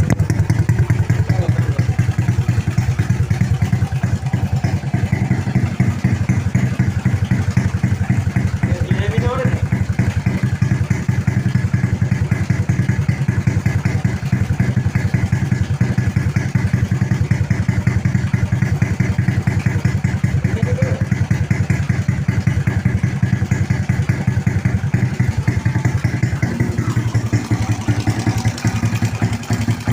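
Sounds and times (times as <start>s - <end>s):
motorcycle engine idling: 0.0s - 29.9s.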